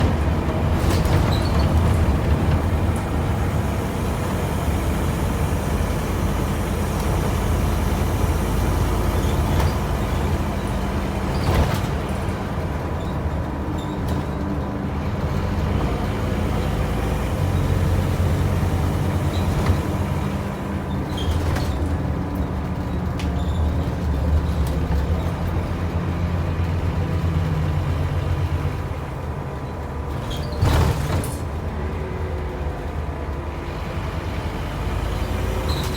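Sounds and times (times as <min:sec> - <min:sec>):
bus diesel engine rumbling: 0:00.0 - 0:35.9.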